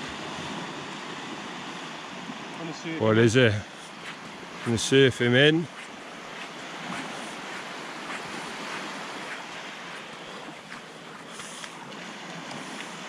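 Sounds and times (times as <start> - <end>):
small waves washing over sand: 0.0 - 13.0.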